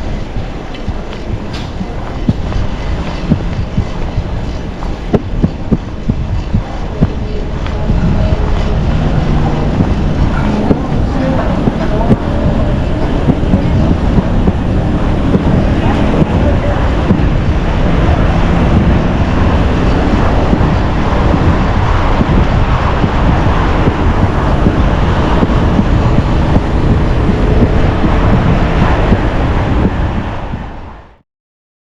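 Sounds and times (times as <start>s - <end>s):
street traffic noise: 0.0s - 31.2s
wind buffeting microphone: 0.0s - 31.2s.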